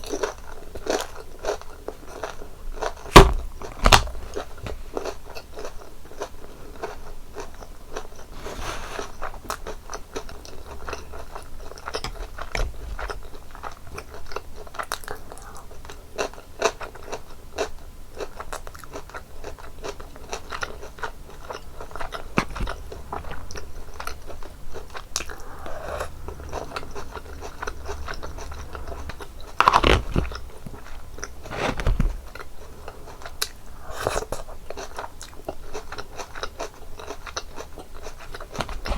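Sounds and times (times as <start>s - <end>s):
chewing crisp breaded crust: 0.0s - 38.9s.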